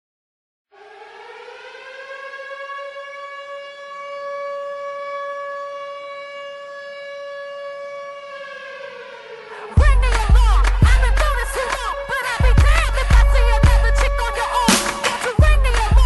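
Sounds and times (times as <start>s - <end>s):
air-raid siren wailing: 0.7s - 16.0s.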